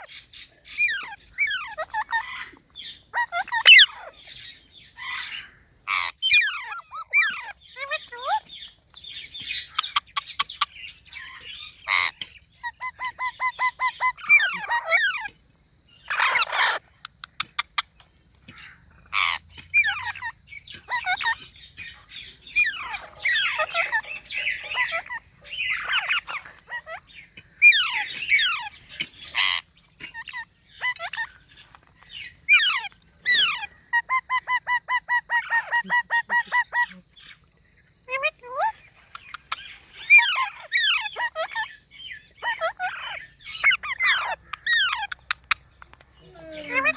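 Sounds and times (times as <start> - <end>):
parrots squawking and whistling: 0.8 - 4.2, 5.0 - 8.5, 9.6 - 15.3, 16.1 - 17.9, 18.5 - 37.0, 38.1 - 46.9.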